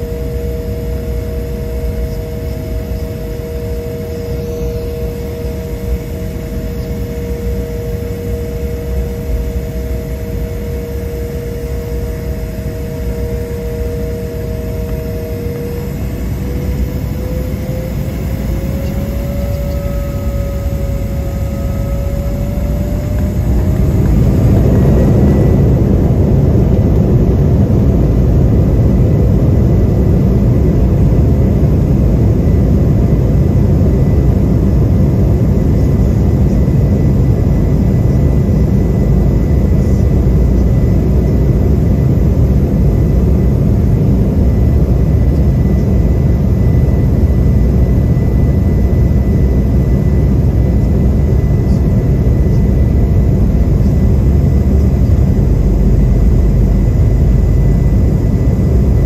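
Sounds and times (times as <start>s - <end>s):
jet engines low rumble: 0.0s - 59.0s
thin steady whine: 0.0s - 59.0s.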